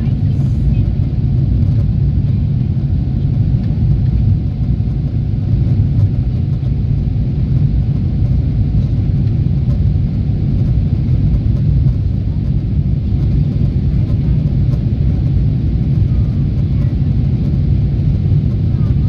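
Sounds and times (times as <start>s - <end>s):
jet engines low rumble: 0.0s - 19.0s.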